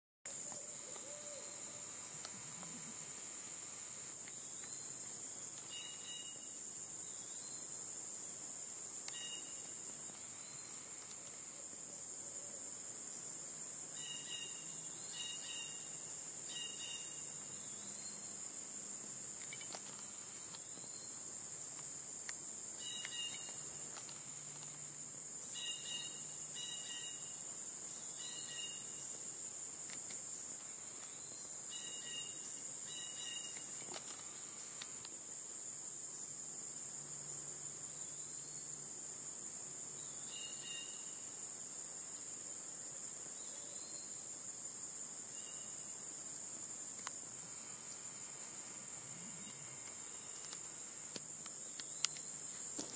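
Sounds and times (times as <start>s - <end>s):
high-pitched insect chorus: 0.3s - 52.9s.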